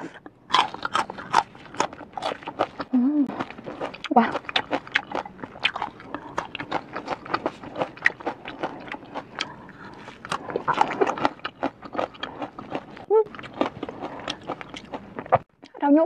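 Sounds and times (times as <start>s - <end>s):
crunchy stems being chewed: 0.5s - 15.4s.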